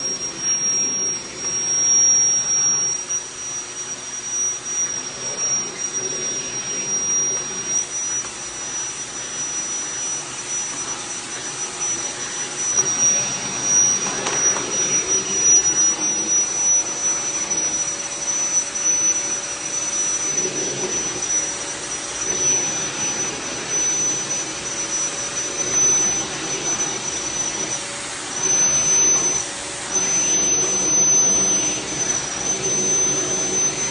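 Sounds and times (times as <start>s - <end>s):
vacuum cleaner whine: 0.0s - 33.9s.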